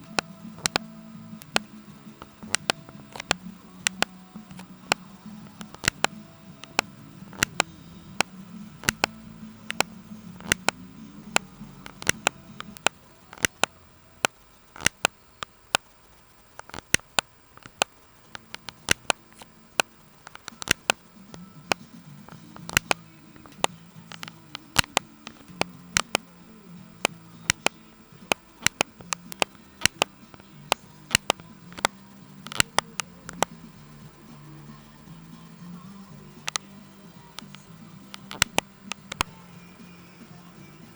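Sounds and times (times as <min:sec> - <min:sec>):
keyboard keys clicking: 0:00.0 - 0:33.7, 0:37.4 - 0:39.3
faint soft music: 0:00.0 - 0:40.9.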